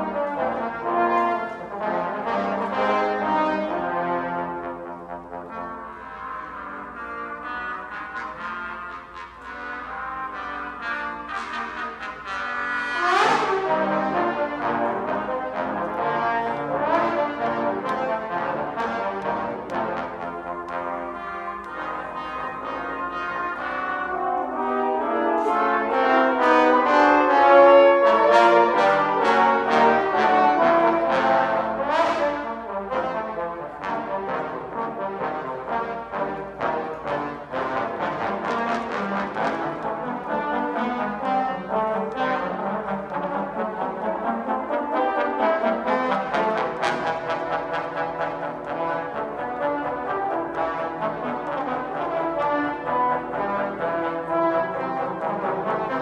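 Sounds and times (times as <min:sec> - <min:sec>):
trombone ensemble playing: 0:00.0 - 0:56.0.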